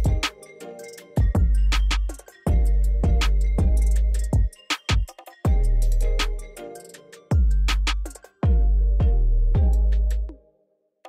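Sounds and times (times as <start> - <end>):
electronic music with heavy bass: 0.0 - 10.4.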